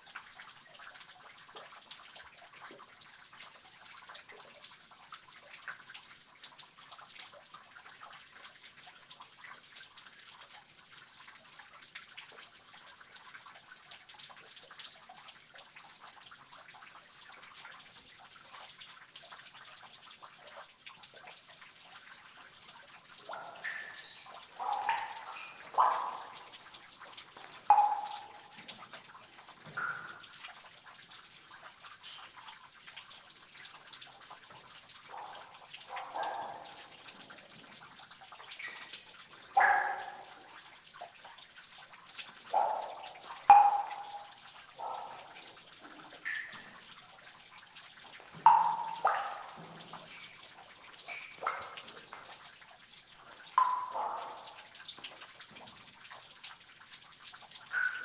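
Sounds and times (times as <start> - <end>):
water drips plinking: 0.0 - 58.0
water trickling: 0.0 - 58.0.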